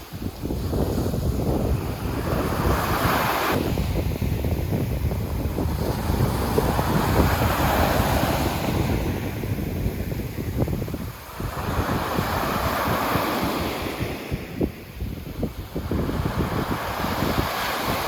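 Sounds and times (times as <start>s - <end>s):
sea waves breaking on beach: 0.0s - 18.0s
wind buffeting microphone: 0.0s - 18.0s.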